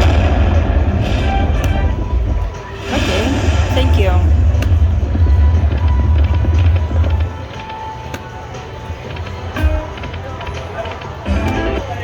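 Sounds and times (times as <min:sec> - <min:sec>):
casino background noise: 0:00.0 - 0:12.0
slot machine electronic music: 0:00.0 - 0:12.0.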